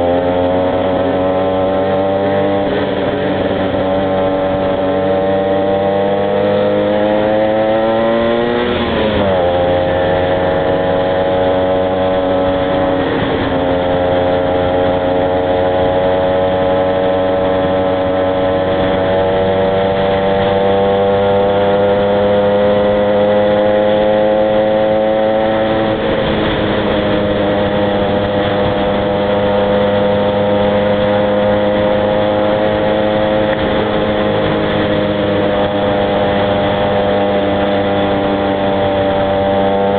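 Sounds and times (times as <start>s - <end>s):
two-stroke motorcycle engines: 0.0s - 39.9s.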